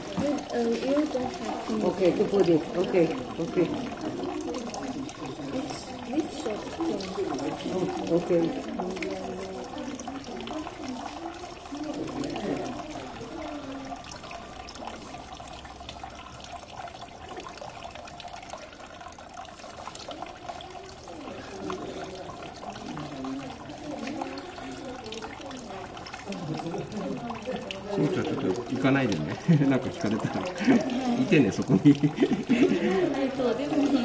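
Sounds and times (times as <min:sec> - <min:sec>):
tap water running into sink: 0:00.0 - 0:34.0.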